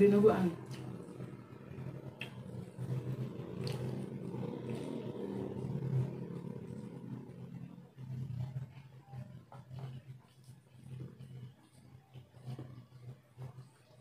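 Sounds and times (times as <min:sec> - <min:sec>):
low motor-like rumble: 0:00.0 - 0:14.0
faint eating clicks: 0:00.6 - 0:14.0.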